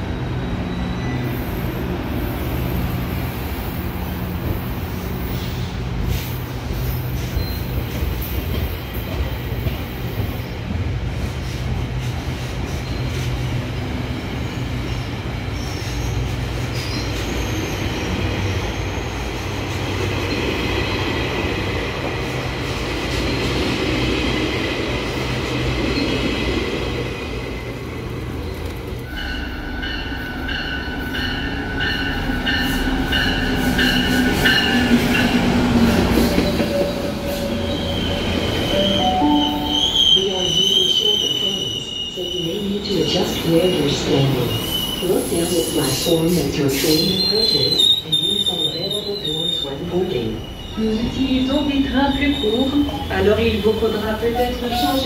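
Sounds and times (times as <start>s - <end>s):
train wheels squealing: 0.0s - 10.5s, 12.4s - 20.5s, 29.1s - 55.0s
train coaches rumbling past: 0.0s - 55.0s.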